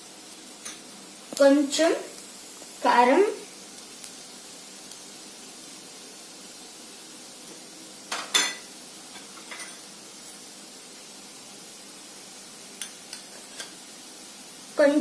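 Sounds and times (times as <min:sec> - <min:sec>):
onions frying in a pot: 0:00.0 - 0:15.0.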